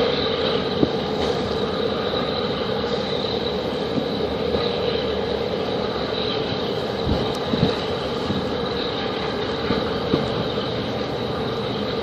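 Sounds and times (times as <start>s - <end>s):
faint high whine: 0.0s - 12.0s
mechanical drone hum: 0.0s - 12.0s.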